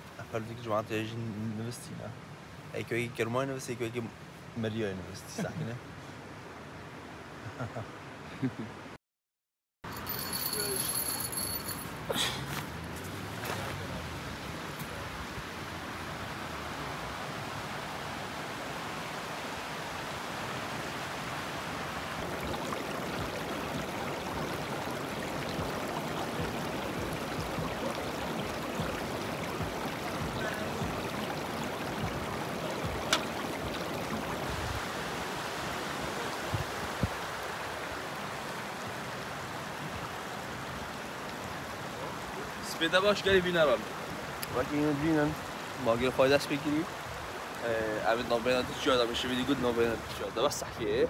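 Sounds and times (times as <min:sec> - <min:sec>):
stream running over rocks: 0:09.9 - 0:51.0.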